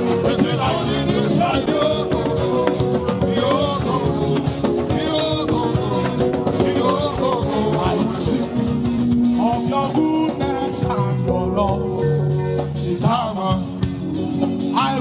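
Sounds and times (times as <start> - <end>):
drum kit beat: 0.0 - 15.0
upbeat gospel music: 0.0 - 15.0.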